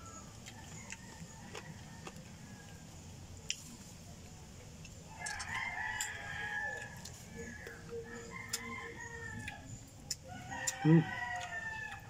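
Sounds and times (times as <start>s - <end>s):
rooster crowing: 0.0s - 3.0s, 5.1s - 12.0s.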